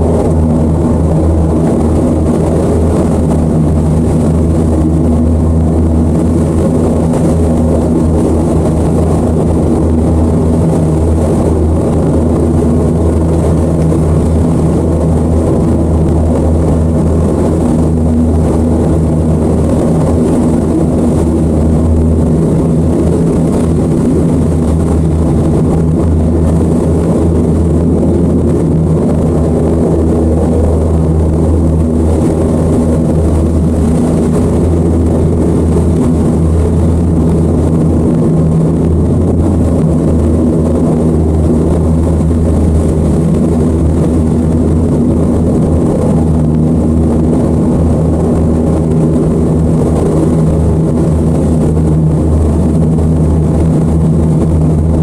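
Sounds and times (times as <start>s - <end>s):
outboard motors droning: 0.0s - 55.0s.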